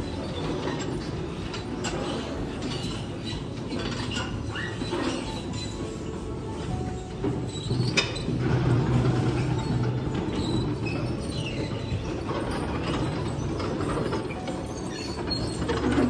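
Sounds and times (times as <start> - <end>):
light squeaks: 0.0 - 16.0
prayer wheels rumbling: 0.0 - 16.0.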